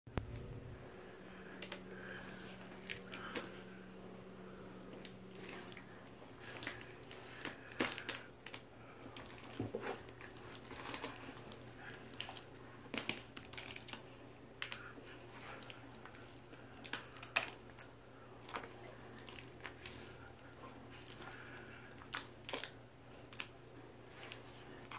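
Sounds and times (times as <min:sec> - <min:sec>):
faint steady hum: 0:00.1 - 0:24.9.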